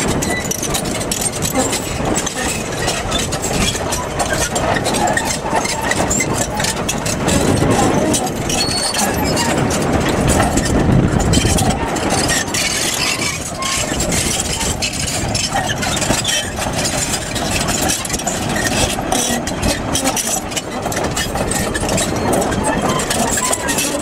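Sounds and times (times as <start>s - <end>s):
bulldozer diesel engine running: 0.0s - 24.0s
steel tracks clanking over rubble: 0.0s - 24.0s.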